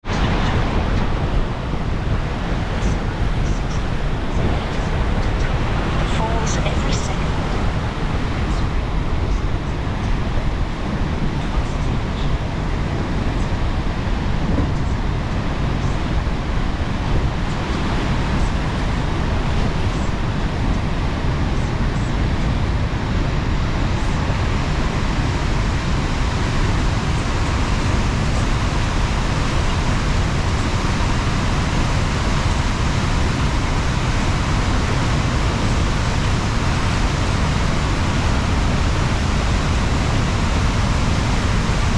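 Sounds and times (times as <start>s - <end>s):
waterfall rushing over rocks: 0.0s - 41.9s.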